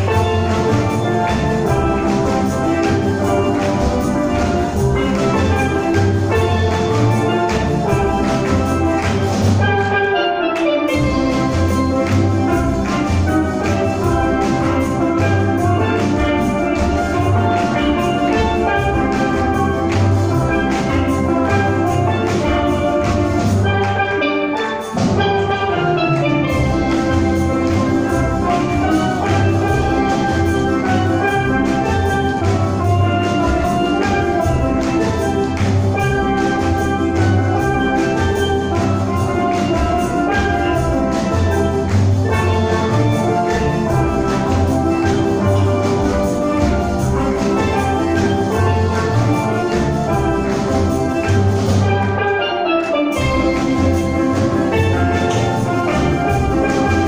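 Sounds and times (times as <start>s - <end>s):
steel band playing: 0.0s - 57.0s.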